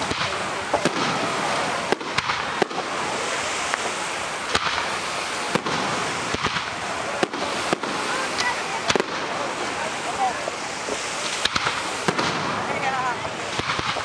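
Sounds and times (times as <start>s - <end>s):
fireworks bursting with sharp bangs: 0.0s - 14.0s
steady background noise: 0.0s - 14.0s.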